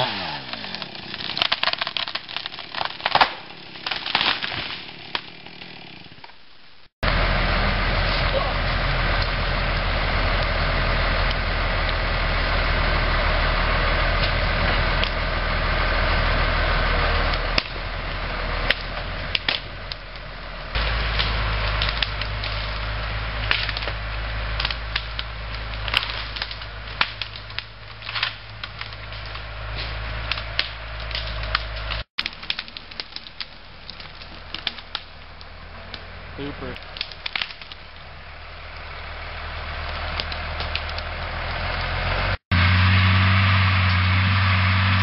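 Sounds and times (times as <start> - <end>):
branches cracking and snapping: 0.0 - 6.8, 13.2 - 15.3, 16.4 - 45.0
tractor engine running: 4.9 - 45.0.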